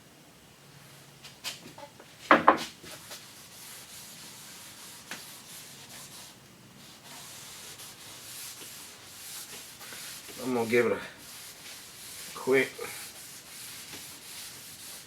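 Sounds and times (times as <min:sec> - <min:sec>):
rubbing on wooden tabletop: 0:02.9 - 0:15.0.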